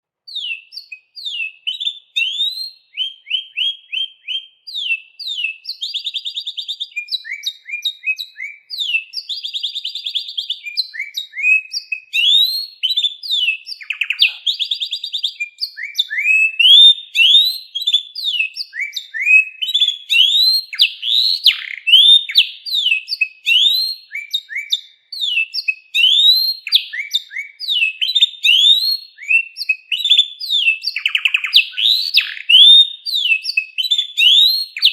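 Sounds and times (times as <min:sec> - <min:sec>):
canary singing: 0:00.3 - 0:34.9.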